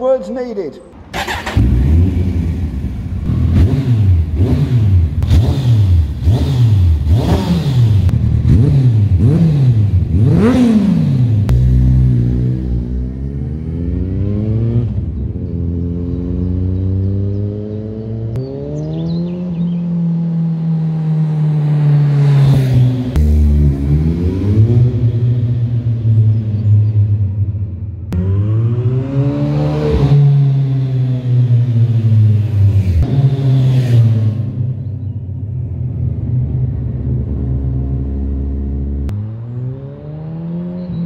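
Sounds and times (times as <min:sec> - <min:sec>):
motorcycle engine revving: 0:01.0 - 0:35.2, 0:35.8 - 0:41.0
motorcycle accelerating: 0:01.0 - 0:41.0.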